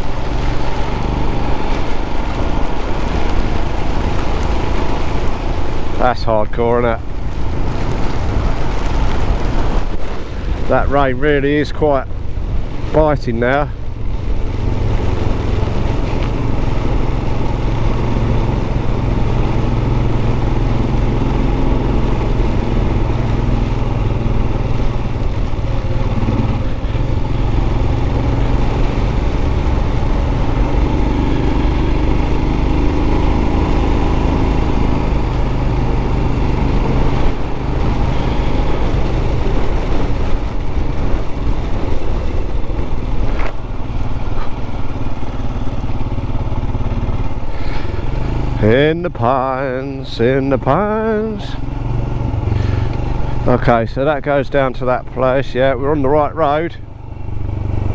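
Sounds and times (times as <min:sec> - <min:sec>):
wind on microphone: 0:00.0 - 0:48.6
heavy rain: 0:00.0 - 0:57.9
motorcycle engine running: 0:00.0 - 0:57.9.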